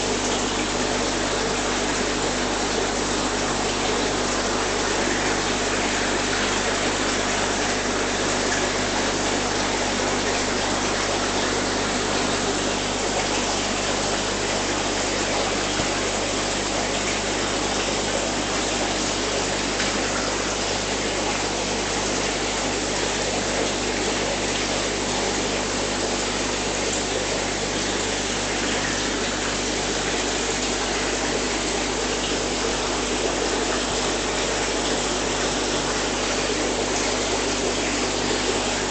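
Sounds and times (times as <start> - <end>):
faint pump hum: 0.0 - 38.9
rushing water: 0.0 - 38.9.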